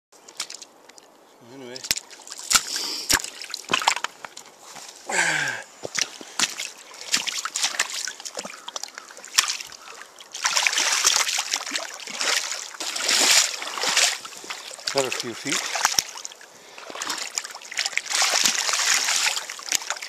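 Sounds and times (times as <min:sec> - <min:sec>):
shallow water splashing: 0:00.2 - 0:01.1, 0:01.7 - 0:20.0.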